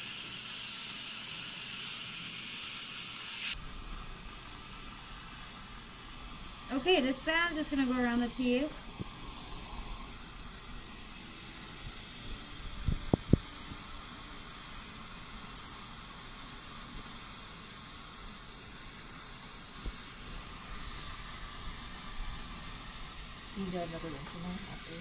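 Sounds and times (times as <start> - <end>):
suction vacuum hissing: 0.0 - 25.0.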